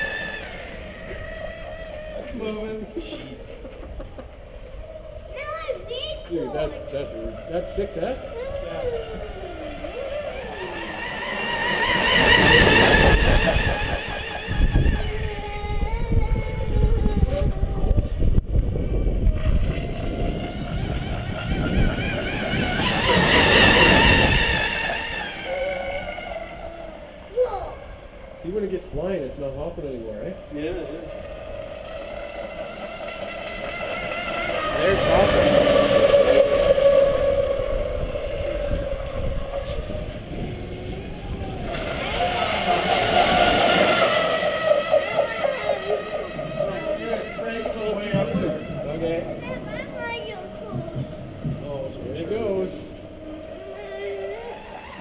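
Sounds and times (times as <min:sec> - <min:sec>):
model boat motor whining: 0:00.0 - 0:55.0
wind rumble on microphone: 0:00.0 - 0:55.0.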